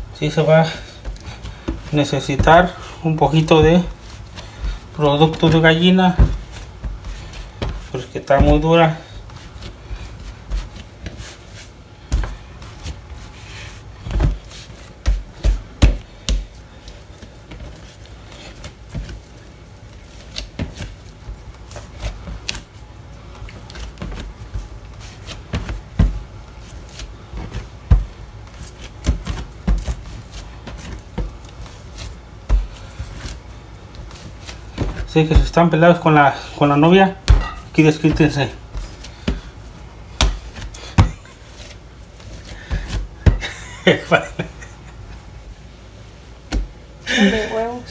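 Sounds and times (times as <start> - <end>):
dough kneaded on table thumping: 0.0 - 36.1, 36.7 - 44.5, 46.4 - 46.8.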